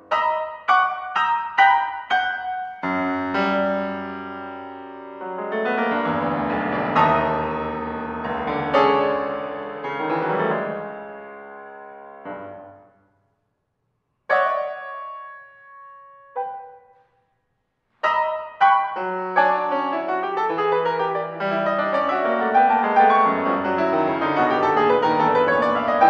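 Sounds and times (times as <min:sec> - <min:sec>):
piano playing: 0:00.0 - 0:12.9, 0:14.3 - 0:17.0, 0:18.0 - 0:26.0.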